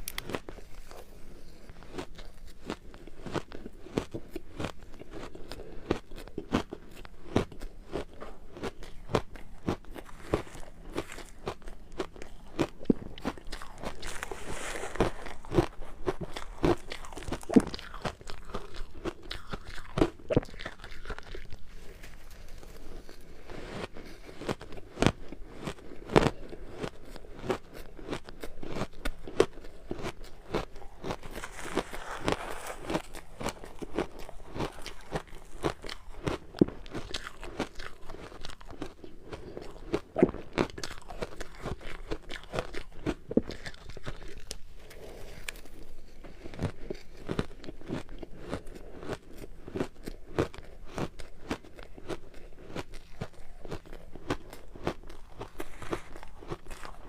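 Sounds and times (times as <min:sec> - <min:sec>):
ice crunching while chewed: 0:00.0 - 0:57.0.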